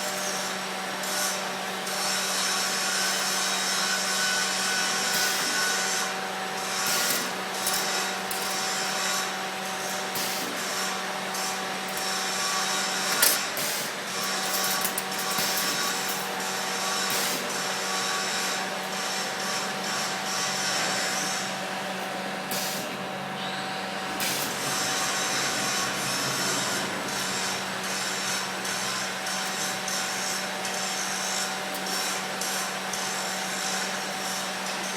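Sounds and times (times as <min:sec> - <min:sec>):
machine motor hum: 0:00.0 - 0:34.9.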